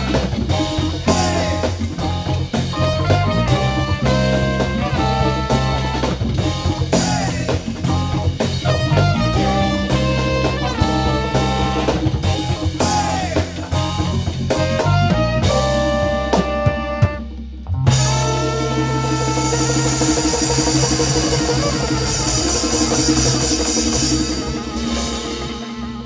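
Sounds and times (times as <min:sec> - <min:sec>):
drum kit groove: 0:00.0 - 0:26.0
electric bass: 0:00.0 - 0:26.0
electric guitar: 0:00.0 - 0:26.0
saxophone melody: 0:00.0 - 0:26.0
trumpet melody: 0:00.0 - 0:26.0.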